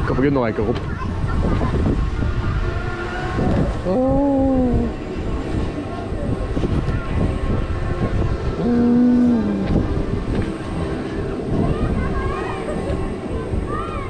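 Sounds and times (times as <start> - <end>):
amusement ride rumbling and rattling: 0.0 - 14.0.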